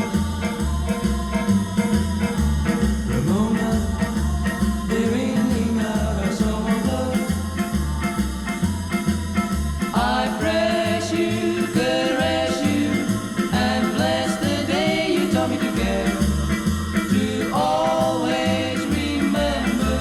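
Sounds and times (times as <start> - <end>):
instrumental pop music: 0.0 - 20.0.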